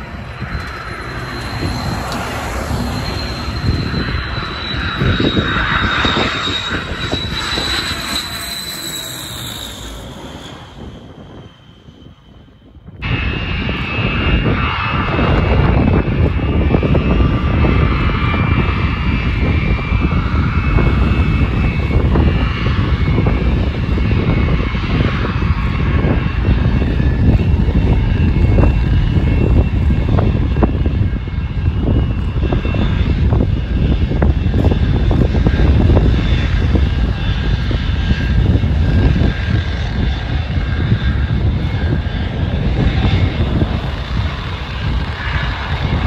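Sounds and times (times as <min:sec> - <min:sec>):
aircraft engine noise: 0:00.0 - 0:46.0
aircraft engine with high whine: 0:00.0 - 0:46.0.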